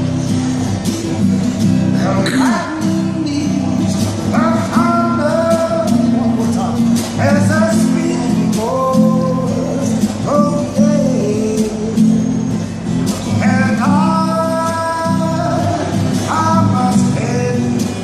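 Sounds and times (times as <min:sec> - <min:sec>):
strummed guitar: 0:00.0 - 0:18.0
man singing: 0:01.9 - 0:18.0.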